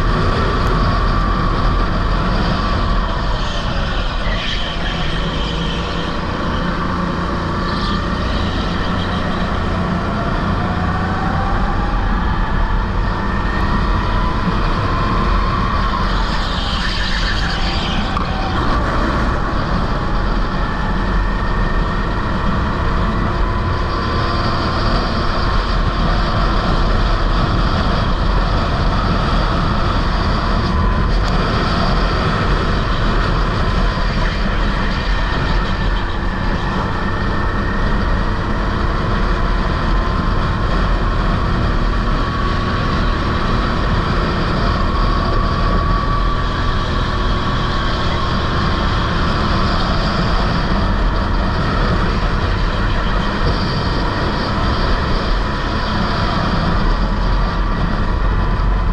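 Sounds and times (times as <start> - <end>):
kart engine running: 0.0 - 58.9
rush of noise: 0.0 - 58.9.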